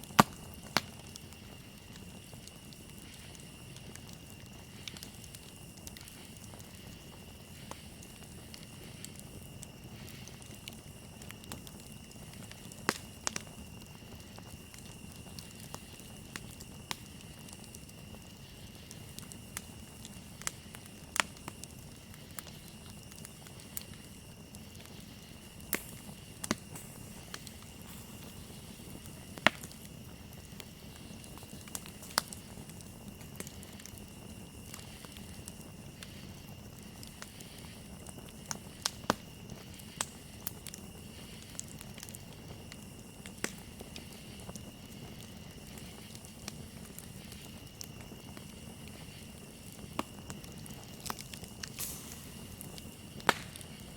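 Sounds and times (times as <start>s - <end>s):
campfire crackling and popping: 0.0s - 53.9s
crickets trilling: 0.0s - 53.9s.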